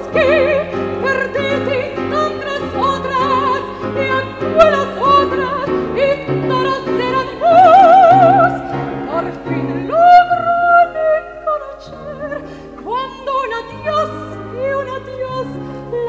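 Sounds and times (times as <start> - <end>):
piano: 0.0 - 16.0
woman singing with vibrato: 0.0 - 16.0.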